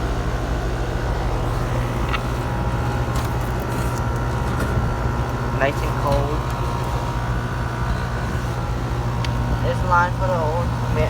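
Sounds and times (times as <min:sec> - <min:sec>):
heat pump hum and fan rush: 0:00.0 - 0:11.0.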